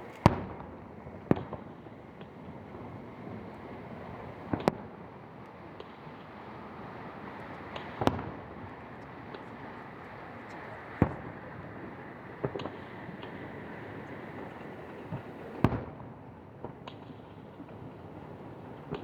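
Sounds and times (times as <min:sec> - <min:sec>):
steady background hiss: 0:00.0 - 0:16.6.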